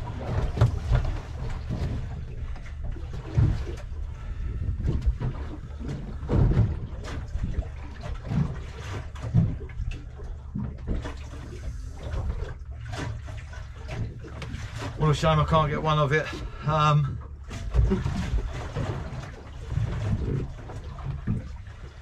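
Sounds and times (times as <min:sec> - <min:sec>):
knocks and splashes: 0:00.0 - 0:22.0
steady low rumble: 0:00.0 - 0:22.0
water lapping against boat hull: 0:00.0 - 0:22.0.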